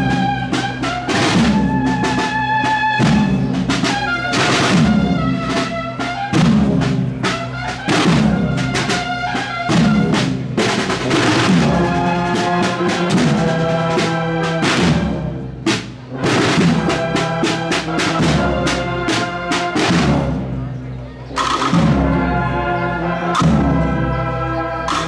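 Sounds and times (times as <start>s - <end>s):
brass band playing a march: 0.0s - 25.0s.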